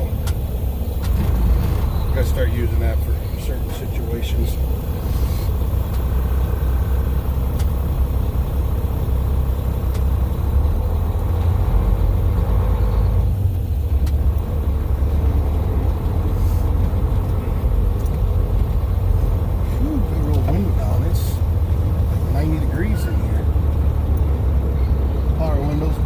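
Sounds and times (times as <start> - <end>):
truck diesel engine rumble: 0.0 - 26.0.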